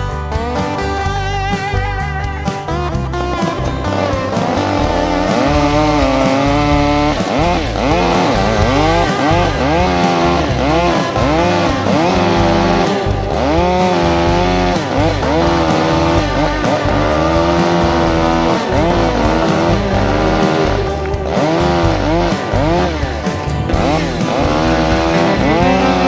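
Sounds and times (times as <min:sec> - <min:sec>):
electric guitar lead: 0:00.0 - 0:26.0
stepping bass line: 0:00.0 - 0:26.0.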